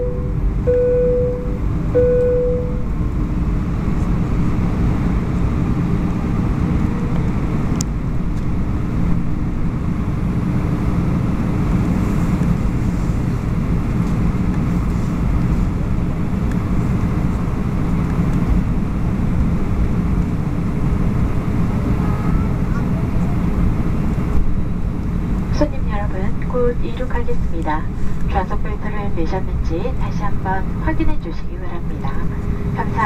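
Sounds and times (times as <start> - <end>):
jet engines humming: 0.0 - 33.0.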